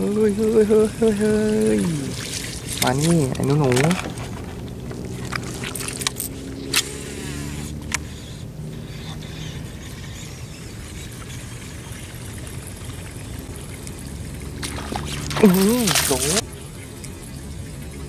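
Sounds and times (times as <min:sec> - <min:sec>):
distant engine hum: 0:00.0 - 0:18.0.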